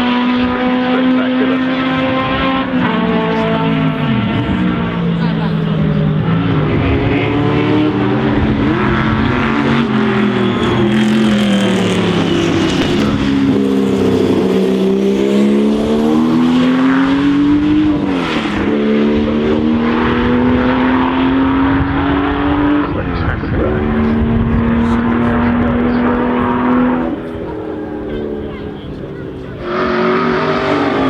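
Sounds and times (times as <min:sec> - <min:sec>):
racing car engine running hard: 0:00.0 - 0:31.0.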